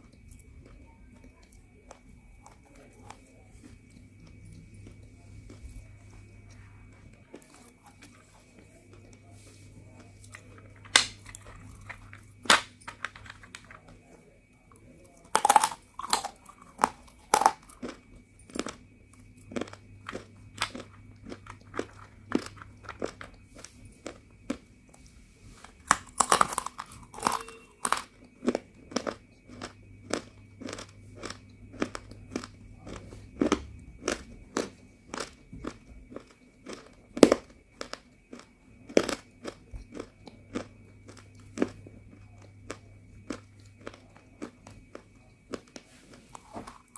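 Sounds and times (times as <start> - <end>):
crisp chewing crunches: 0.0 - 25.0, 25.7 - 46.9
faint steady hum: 0.0 - 46.9
crunchy bites: 0.1 - 25.0, 25.6 - 46.9.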